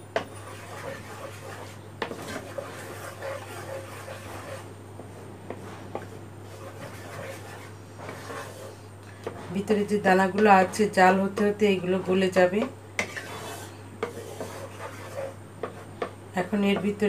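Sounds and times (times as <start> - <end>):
spatula scraping a pan: 0.2 - 4.7, 5.5 - 16.1.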